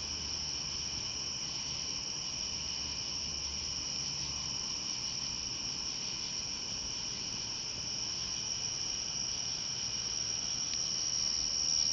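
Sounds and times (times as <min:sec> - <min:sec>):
crickets and night insects singing: 0:00.0 - 0:11.9.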